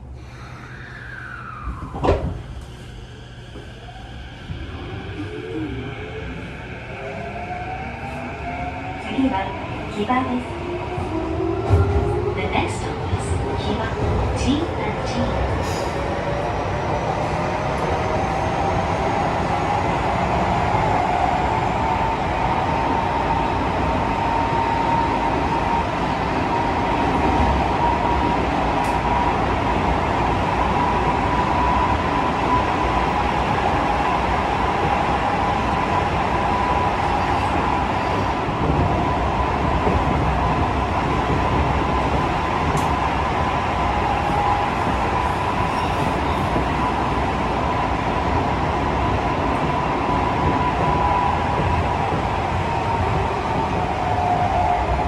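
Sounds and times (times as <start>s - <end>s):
wheels rumbling on rail: 1.0s - 55.0s.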